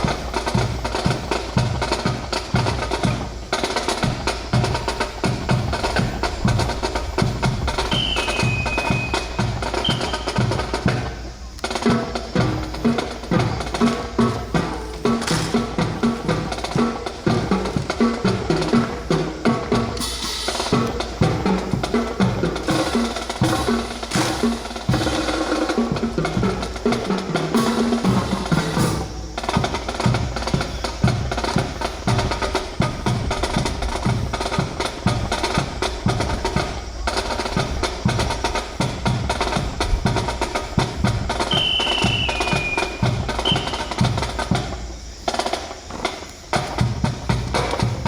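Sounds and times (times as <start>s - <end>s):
quick drum beat: 0.0s - 48.0s.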